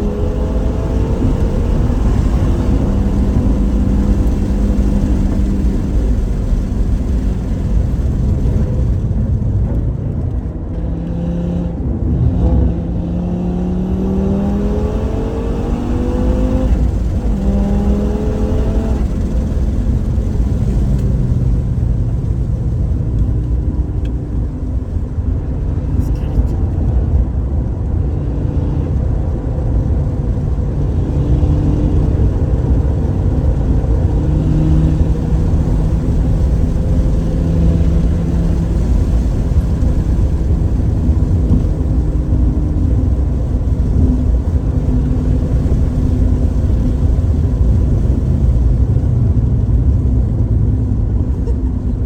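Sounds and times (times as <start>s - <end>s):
racing car engine: 0.0s - 52.0s
wind and road noise: 0.0s - 52.0s.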